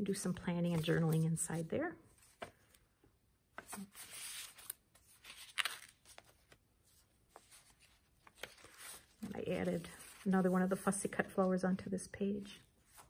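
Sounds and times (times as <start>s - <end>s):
paper pages rustling: 0.2s - 2.9s, 3.5s - 13.0s.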